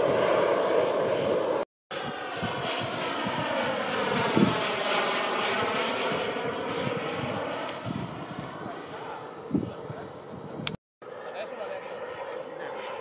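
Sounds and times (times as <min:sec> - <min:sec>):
model jet flying past: 0:00.0 - 0:13.0.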